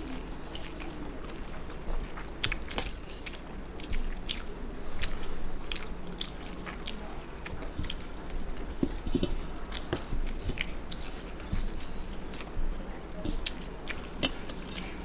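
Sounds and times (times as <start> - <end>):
wet mouth clicks: 0.0 - 12.6
person chewing and biting: 0.0 - 15.0.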